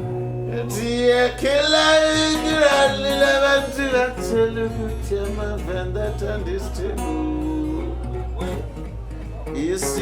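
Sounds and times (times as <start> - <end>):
man singing long notes: 0.0 - 8.7
acoustic guitar: 0.0 - 10.0.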